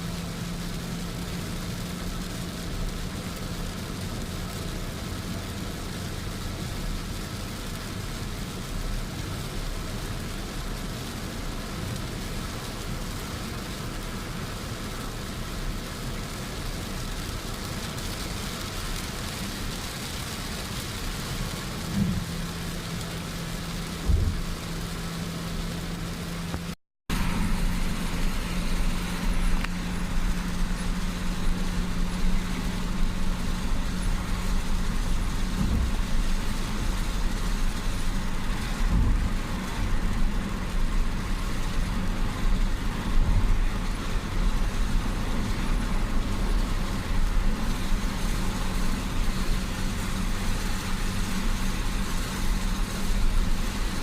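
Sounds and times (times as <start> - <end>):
car engine hum: 0.0 - 54.0
tyres on wet road: 0.0 - 54.0.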